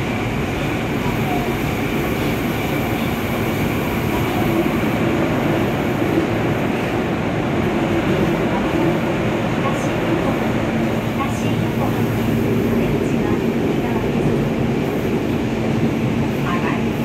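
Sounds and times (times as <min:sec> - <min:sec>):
subway train running noise: 0:00.0 - 0:17.0.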